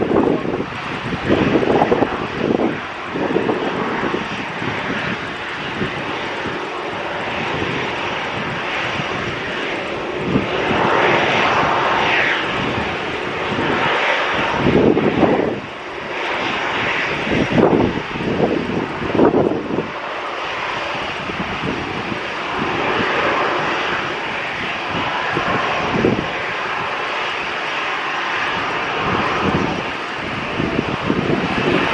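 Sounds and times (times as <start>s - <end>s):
jet engines roaring: 0.0s - 31.9s.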